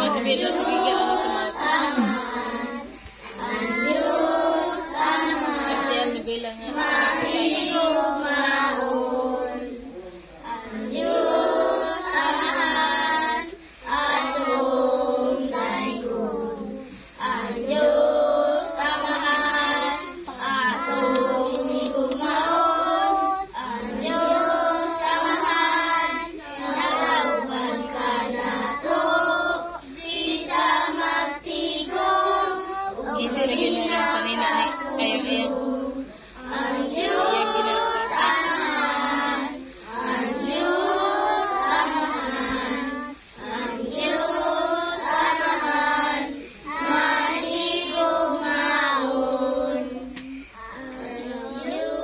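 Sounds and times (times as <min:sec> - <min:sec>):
children singing together: 0:00.0 - 0:52.0.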